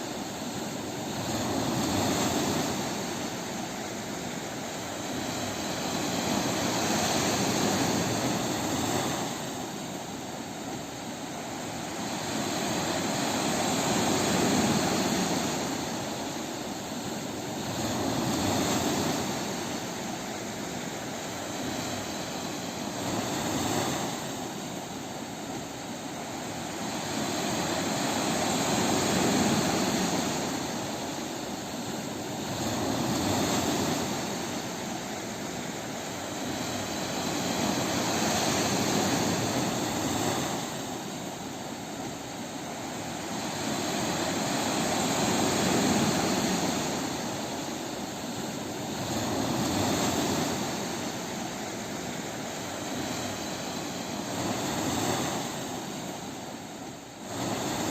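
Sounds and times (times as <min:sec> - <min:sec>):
ocean waves breaking: 0:00.0 - 0:57.9.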